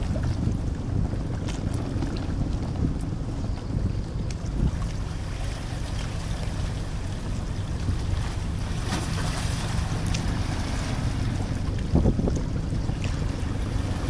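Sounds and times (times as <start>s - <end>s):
water lapping: 0.0s - 14.0s
wind rumbling on microphone: 0.0s - 14.0s.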